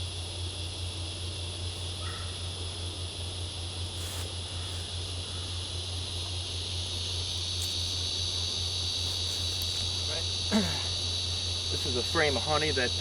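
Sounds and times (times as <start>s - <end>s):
insect chorus: 0.0s - 13.0s
low steady hum: 0.0s - 13.0s.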